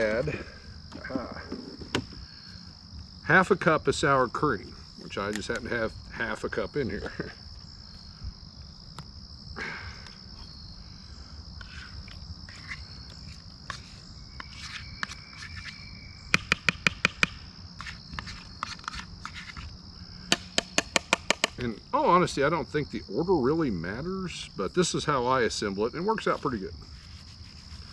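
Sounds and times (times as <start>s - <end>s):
crickets chirring: 0.0s - 27.9s.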